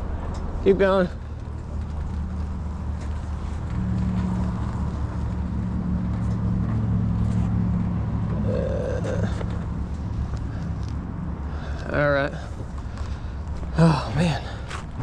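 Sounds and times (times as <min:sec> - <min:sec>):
vehicle engine running: 0:00.8 - 0:15.0.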